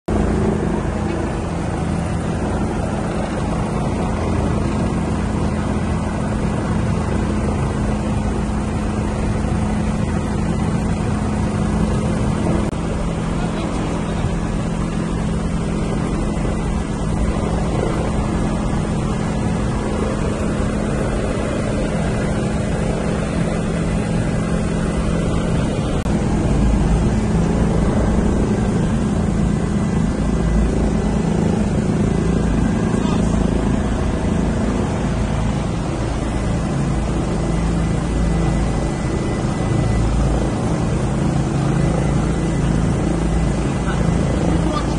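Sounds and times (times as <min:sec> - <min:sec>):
helicopter engine and rotor drone: 0:00.0 - 0:44.9.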